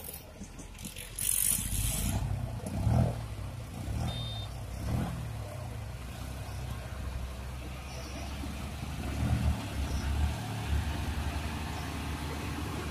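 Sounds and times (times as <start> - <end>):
diesel engine under load: 0.0 - 12.9.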